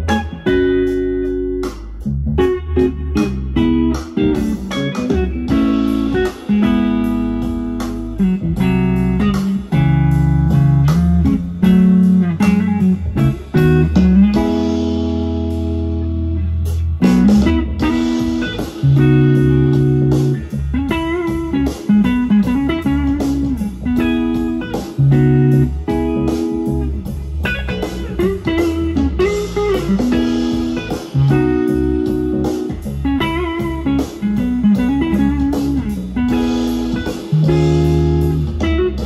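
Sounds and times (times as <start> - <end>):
bass guitar: 0.0 - 39.0
blues electric guitar: 0.0 - 39.0
drums: 0.0 - 39.0.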